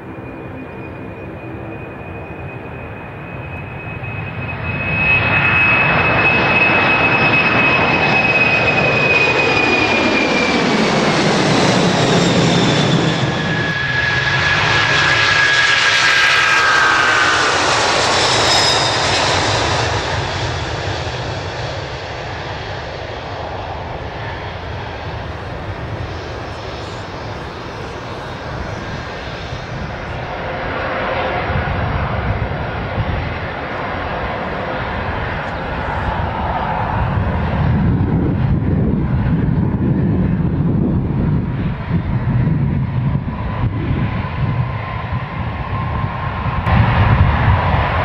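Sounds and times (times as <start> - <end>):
jet engine roar: 0.0 - 48.0.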